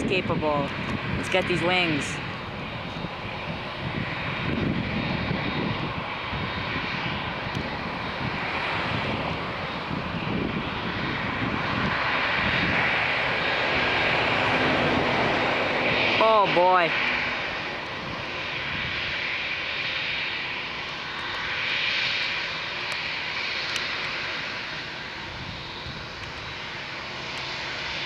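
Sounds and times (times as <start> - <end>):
jet engines at taxi power: 0.0 - 28.0.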